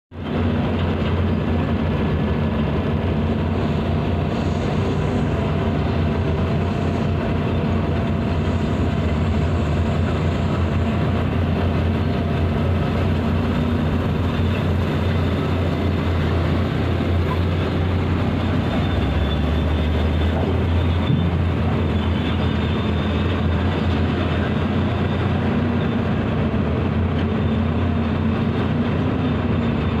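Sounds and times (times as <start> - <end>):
truck diesel engine running: 0.2 - 30.0.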